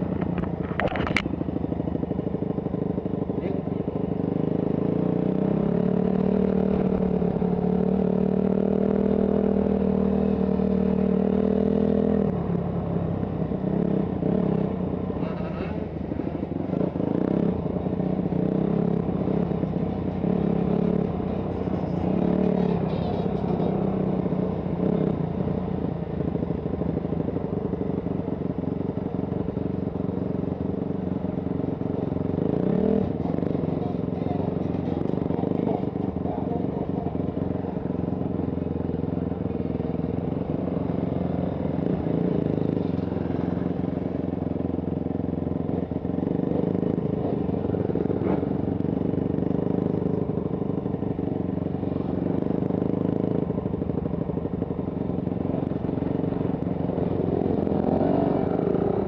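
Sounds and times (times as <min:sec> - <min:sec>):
motocross bike engine at low revs: 0:00.0 - 0:59.0.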